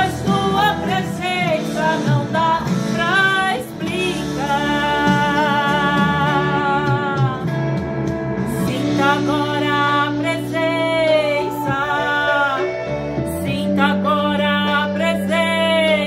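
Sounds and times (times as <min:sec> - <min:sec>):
woman singing: 0:00.0 - 0:07.8, 0:08.5 - 0:16.0.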